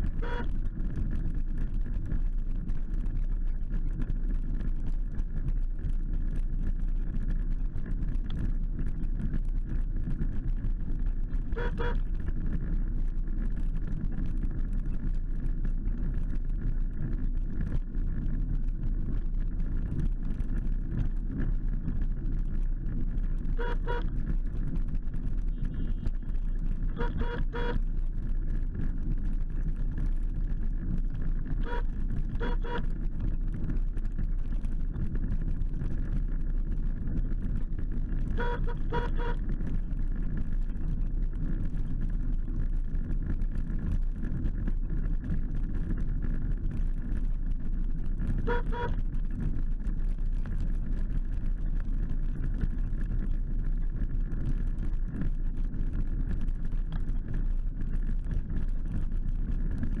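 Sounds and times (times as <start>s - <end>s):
mobility scooter rumble and whine: 0.0s - 60.0s.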